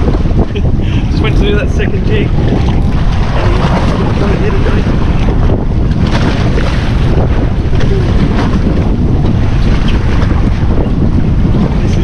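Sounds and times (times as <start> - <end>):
choppy sea washing: 0.0 - 12.0
wind buffeting microphone: 0.0 - 12.0.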